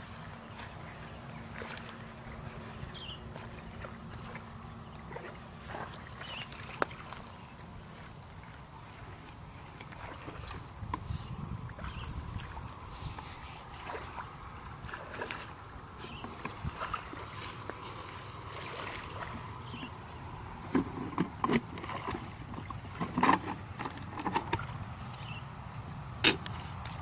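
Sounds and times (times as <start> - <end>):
feet wading in muddy water: 0.0 - 27.0.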